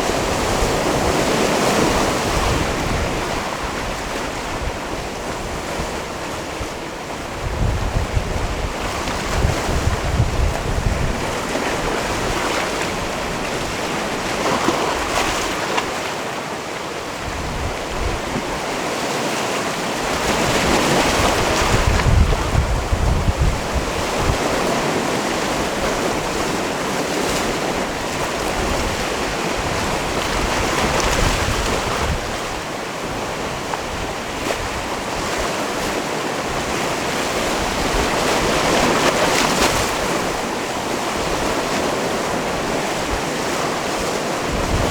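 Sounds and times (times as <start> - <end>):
wind buffeting microphone: 0.0 - 15.3, 17.1 - 18.8, 20.0 - 44.9.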